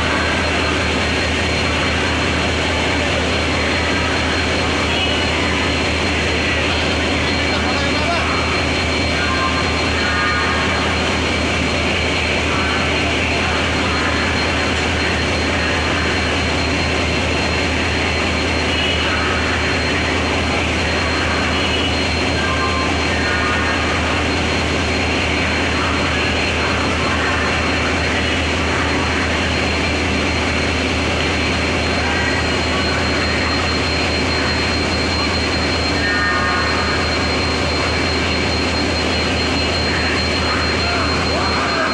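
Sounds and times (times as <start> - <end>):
diesel locomotive engine hum: 0.0 - 41.9
thin high whine: 0.0 - 41.9.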